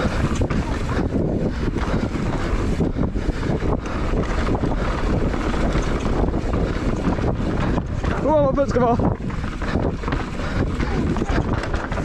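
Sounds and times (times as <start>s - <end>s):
bike clattering over bumps: 0.0s - 12.0s
tyres rumbling on dirt trail: 0.0s - 12.0s
wind rushing over microphone: 0.0s - 12.0s.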